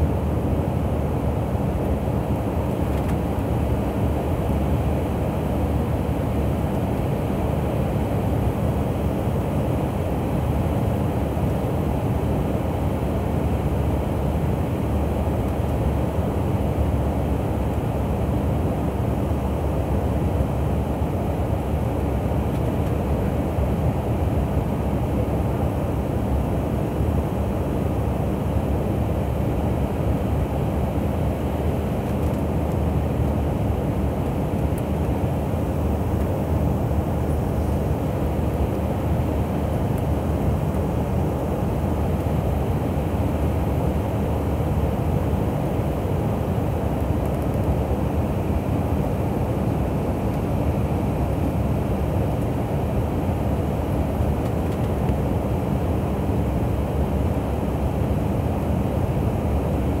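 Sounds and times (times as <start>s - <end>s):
airliner cabin engine rumble: 0.0s - 60.0s.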